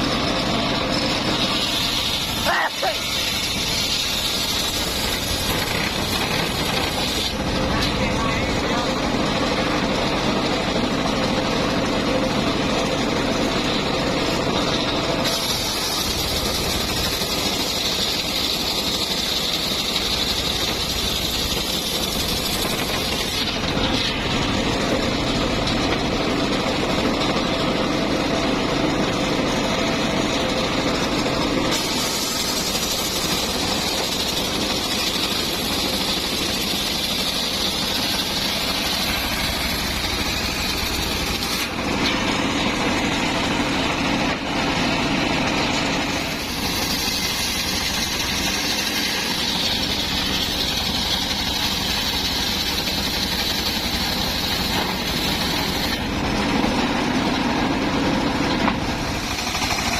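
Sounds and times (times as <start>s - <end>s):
circular saw cutting timber: 0.0s - 59.9s.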